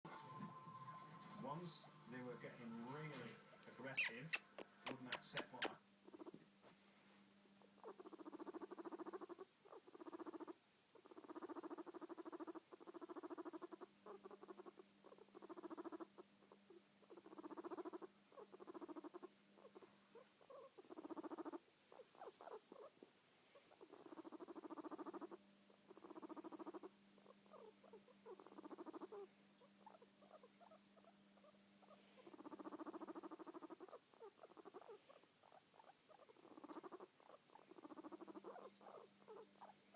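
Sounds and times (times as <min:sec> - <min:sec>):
guinea pig purring: 0:00.1 - 0:06.5, 0:07.5 - 0:39.9.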